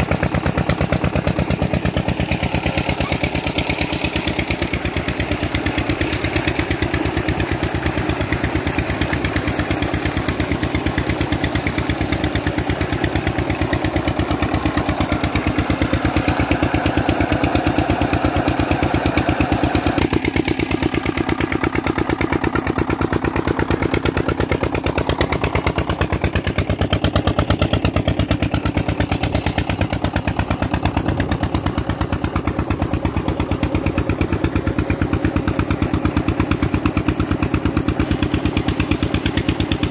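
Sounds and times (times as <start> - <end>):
diesel pump engine running: 0.0 - 39.9.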